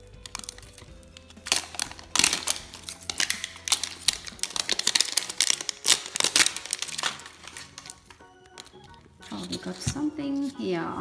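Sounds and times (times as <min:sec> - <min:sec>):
plastic wrapping crinkling: 0:00.0 - 0:10.7.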